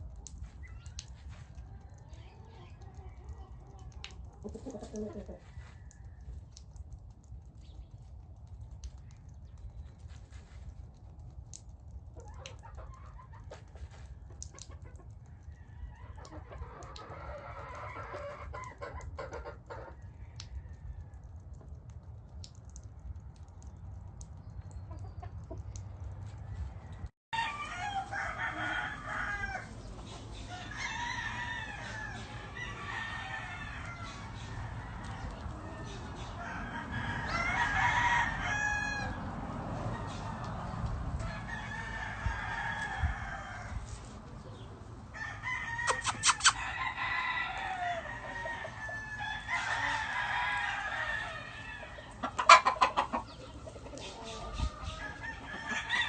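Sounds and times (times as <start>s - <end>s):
roosters crowing and clucking: 0.0s - 7.6s, 12.1s - 22.9s, 24.2s - 56.0s.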